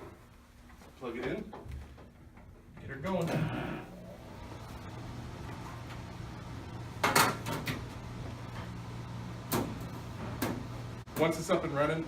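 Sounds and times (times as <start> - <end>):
dehumidifier humming: 0.0 - 12.0.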